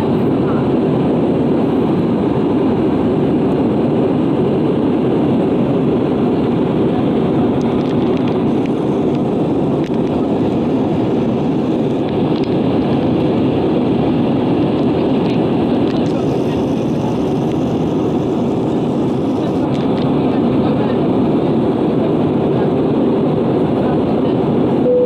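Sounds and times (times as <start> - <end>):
airliner cabin noise: 0.0 - 25.0.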